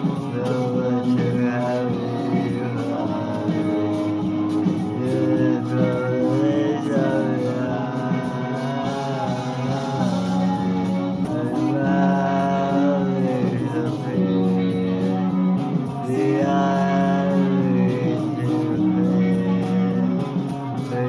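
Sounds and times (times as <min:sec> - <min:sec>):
person singing long notes: 0:00.0 - 0:21.0
rock song with guitar: 0:00.0 - 0:21.0.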